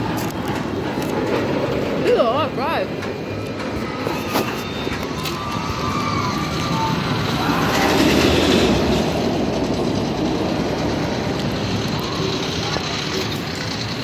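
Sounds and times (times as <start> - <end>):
roller coaster rumbling on track: 0.0 - 14.0.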